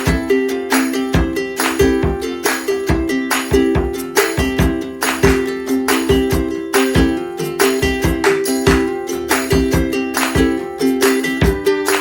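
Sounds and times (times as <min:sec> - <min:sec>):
plucked-string melody: 0:00.0 - 0:12.0
steady beat: 0:00.0 - 0:12.0.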